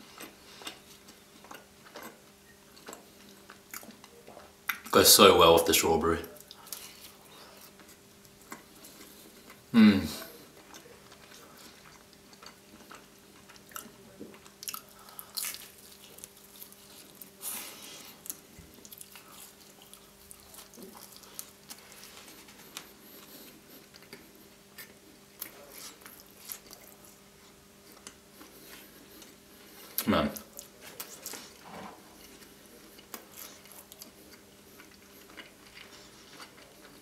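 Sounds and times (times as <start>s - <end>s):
chewing and biting pizza: 0.0s - 4.9s, 6.3s - 9.7s, 10.3s - 37.0s.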